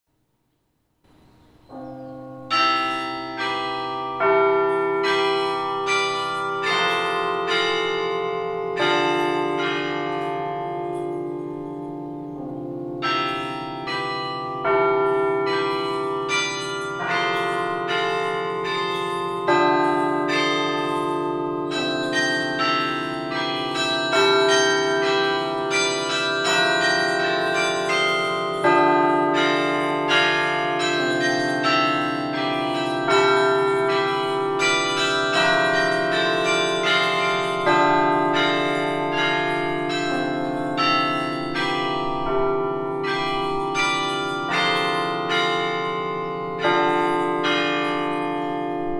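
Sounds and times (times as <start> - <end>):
carillon bells playing melody: 1.8 - 48.9.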